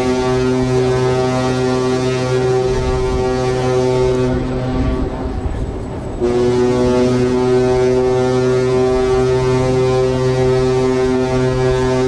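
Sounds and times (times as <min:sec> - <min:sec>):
ship's horn blasts: 0:00.0 - 0:12.0.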